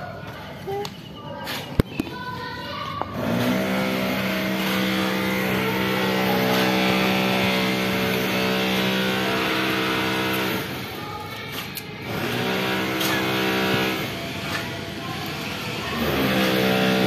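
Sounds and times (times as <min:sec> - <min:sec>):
motor engine running: 0:03.0 - 0:17.0.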